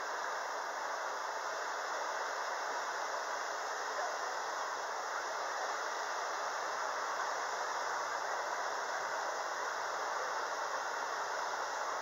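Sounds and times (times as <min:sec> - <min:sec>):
fountain spray splashing water: 0:00.0 - 0:12.0.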